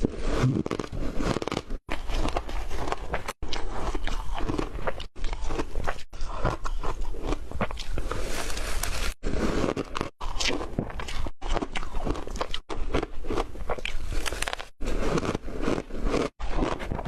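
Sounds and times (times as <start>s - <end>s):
chewing and crunching ice: 0.0s - 17.0s.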